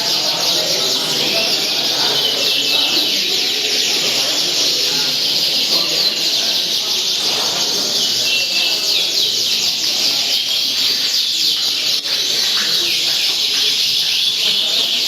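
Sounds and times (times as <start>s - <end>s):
murmur of crowd voices: 0.0s - 15.0s
songbirds singing in chorus: 0.0s - 15.0s.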